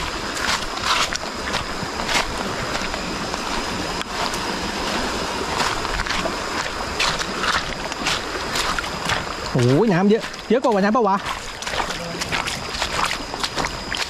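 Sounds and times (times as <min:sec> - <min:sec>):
stream rushing: 0:00.0 - 0:14.0
water splashes: 0:00.0 - 0:14.0.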